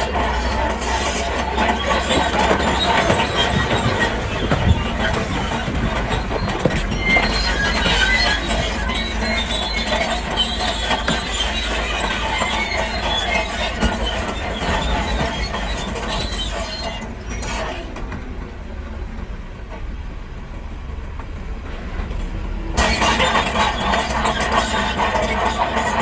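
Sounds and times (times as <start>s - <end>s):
metallic squealing and clatter: 0.0s - 18.0s, 22.8s - 26.0s
diesel engines rumbling: 0.0s - 26.0s.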